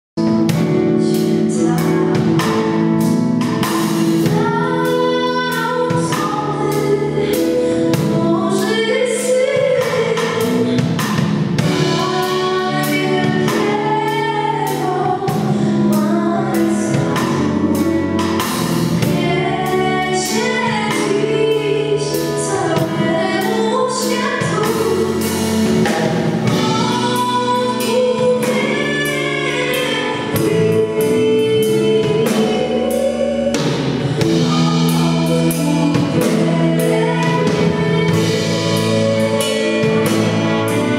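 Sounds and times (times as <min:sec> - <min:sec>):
band playing: 0:00.2 - 0:40.9
drum kit: 0:00.2 - 0:40.9
woman singing into microphone: 0:00.2 - 0:40.9.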